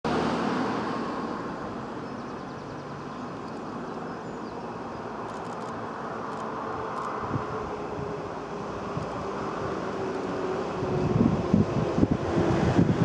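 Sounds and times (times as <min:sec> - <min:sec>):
diesel train approaching: 0:00.1 - 0:13.0.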